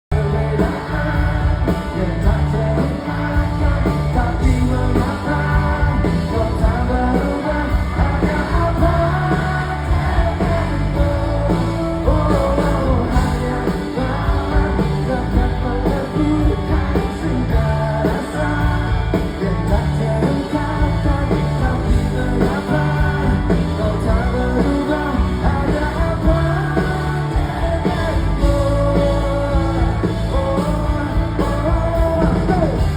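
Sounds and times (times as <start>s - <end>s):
man singing: 0.0s - 32.9s
pop-rock band playing: 0.0s - 32.9s.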